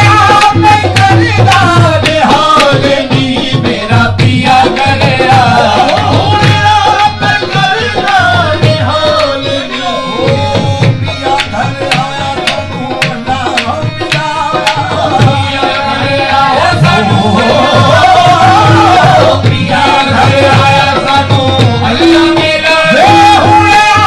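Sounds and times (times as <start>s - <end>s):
tabla beat: 0.0s - 24.0s.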